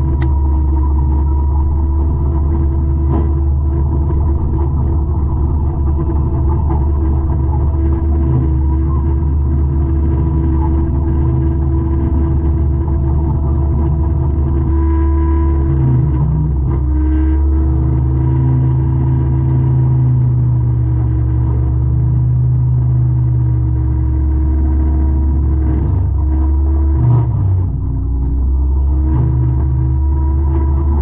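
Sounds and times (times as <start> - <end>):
diesel engine under heavy load: 0.0 - 31.0.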